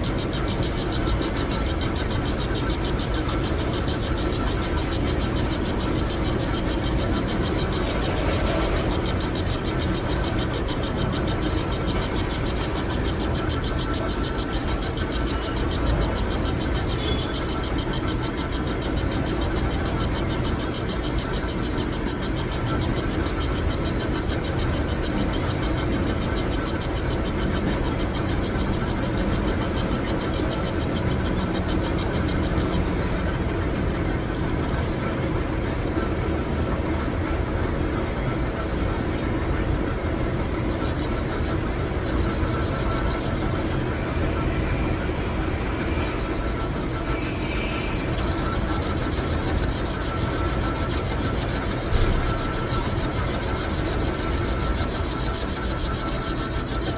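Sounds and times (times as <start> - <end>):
metal lathe running: 0.0 - 56.9.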